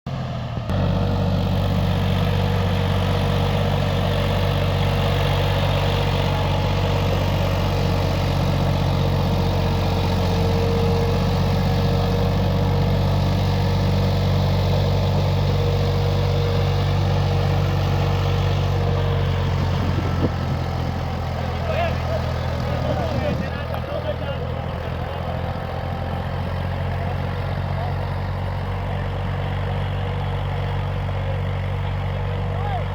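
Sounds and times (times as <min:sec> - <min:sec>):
tractor diesel engine running: 0:00.1 - 0:32.9.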